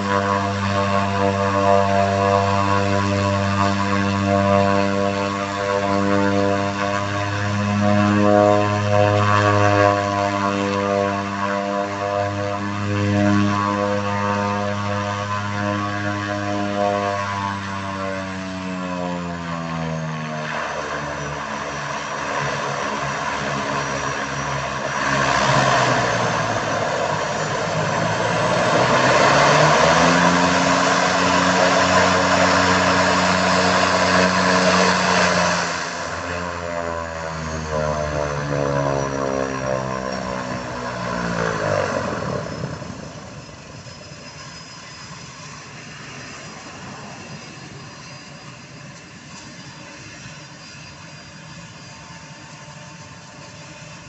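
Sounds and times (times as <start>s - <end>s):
high turbine whine: 0.0s - 54.0s
turboprop engine running: 0.0s - 54.0s.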